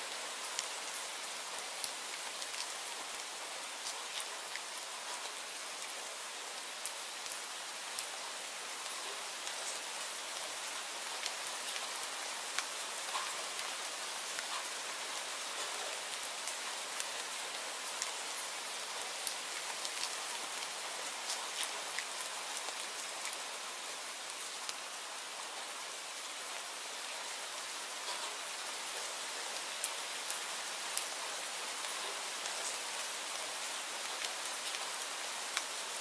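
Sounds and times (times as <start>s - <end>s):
steady rain hiss: 0.0s - 36.0s.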